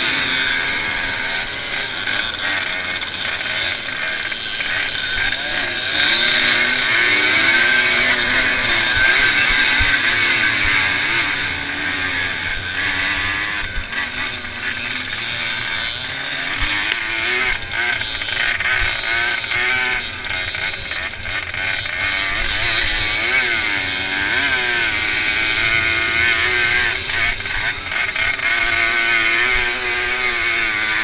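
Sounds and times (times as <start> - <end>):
motorcycle engine revving: 0.0 - 31.0
other motorcycles racing: 0.0 - 31.0.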